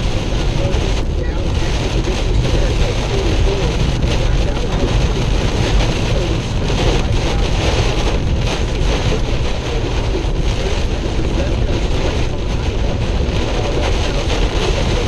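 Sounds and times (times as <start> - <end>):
car engine running: 0.0 - 15.0
heavy rain on a car: 0.0 - 15.0
tyre noise on wet road: 0.0 - 15.0.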